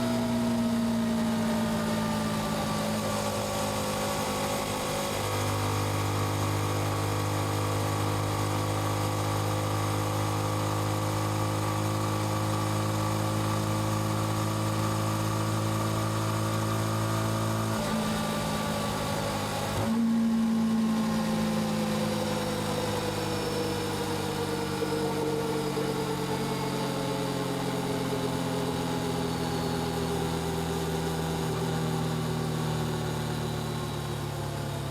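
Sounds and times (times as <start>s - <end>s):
motorcycle engine and exhaust: 0.0s - 34.9s.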